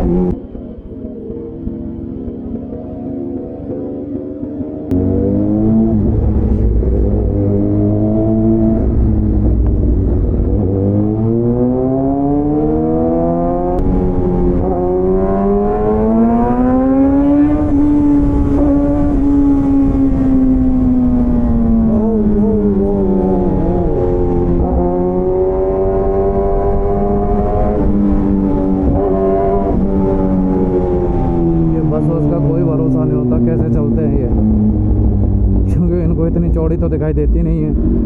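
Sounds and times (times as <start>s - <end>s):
motorcycle engine and exhaust: 0.0s - 38.0s.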